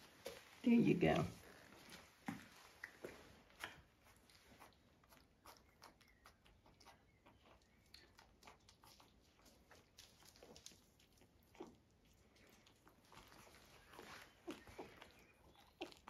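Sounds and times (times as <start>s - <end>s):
puppies suckling: 2.8s - 16.0s.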